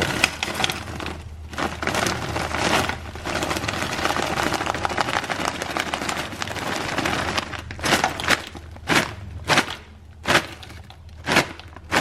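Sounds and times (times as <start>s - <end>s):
bag shaking: 0.0s - 12.0s.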